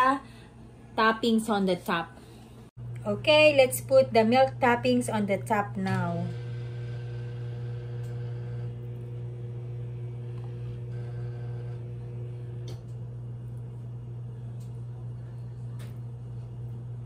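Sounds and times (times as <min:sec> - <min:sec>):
appliance humming: 0:00.0 - 0:17.0.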